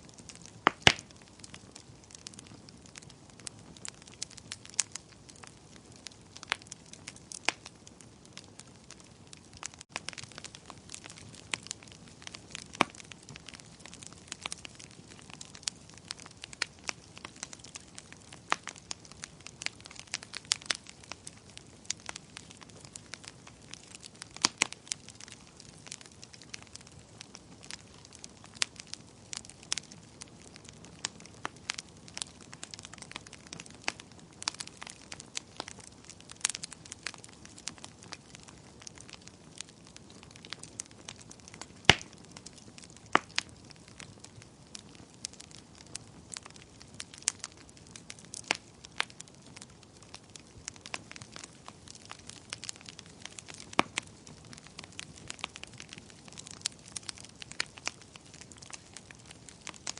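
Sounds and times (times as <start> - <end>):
soft hiss of burning: 0.0 - 59.9
wood fire crackling and popping: 0.0 - 59.9.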